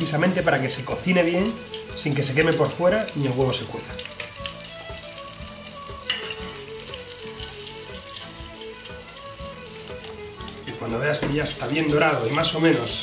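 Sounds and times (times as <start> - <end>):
deep-frying sizzle with crackles: 0.0 - 13.0
soft background music: 0.0 - 13.0.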